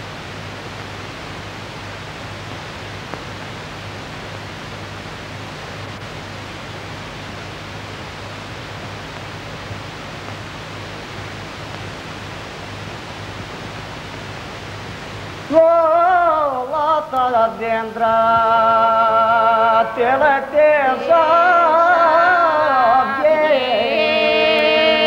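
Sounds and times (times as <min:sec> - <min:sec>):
film soundtrack hiss: 0:00.0 - 0:25.0
low mains hum: 0:00.0 - 0:25.0.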